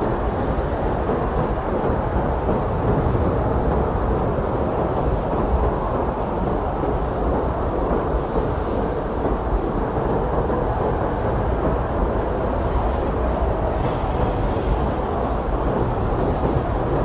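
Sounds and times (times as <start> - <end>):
blizzard wind blowing hard: 0.0 - 17.0.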